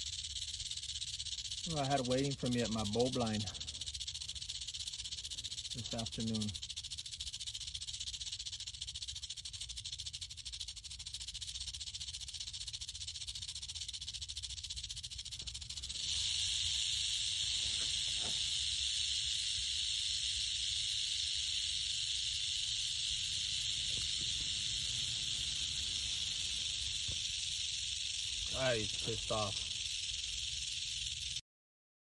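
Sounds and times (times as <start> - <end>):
rattlesnake rattling: 0.0 - 31.4.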